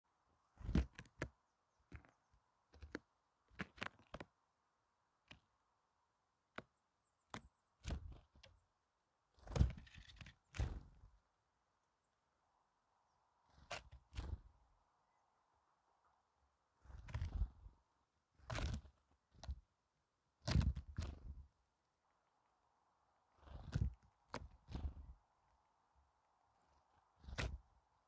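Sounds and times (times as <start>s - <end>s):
birds hopping and pecking on snow: 0.0s - 28.0s.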